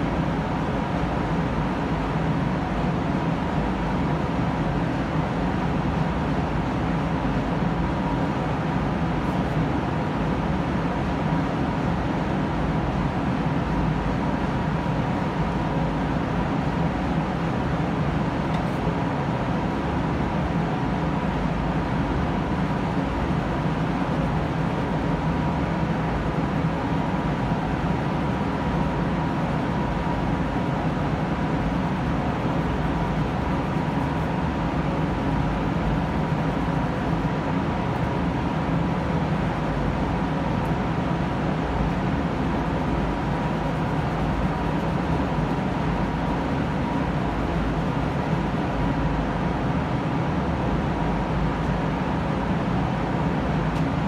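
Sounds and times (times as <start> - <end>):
ventilation fans droning: 0.0 - 54.0.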